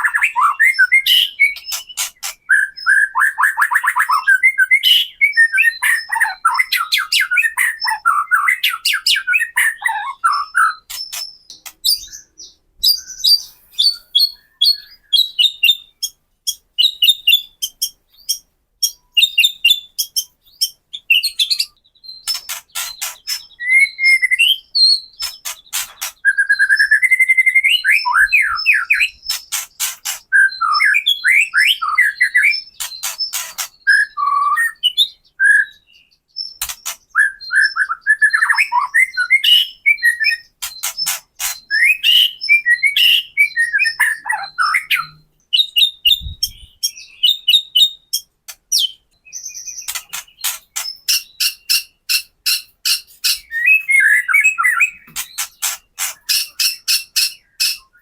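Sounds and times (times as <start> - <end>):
bird singing whistled phrases: 0.0 - 16.1, 16.8 - 25.3, 26.1 - 29.3, 30.3 - 36.2, 37.1 - 40.5, 41.7 - 50.0, 51.0 - 55.1.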